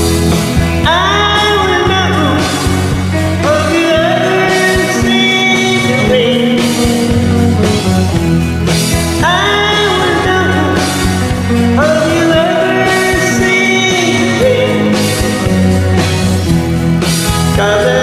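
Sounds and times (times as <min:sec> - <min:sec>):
rock song with singing: 0:00.0 - 0:18.0.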